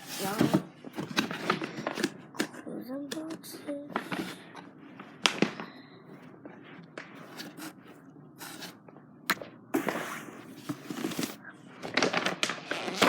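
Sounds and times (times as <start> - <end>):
scraping and rustling: 0.0 - 5.5, 6.5 - 8.8, 9.8 - 13.0.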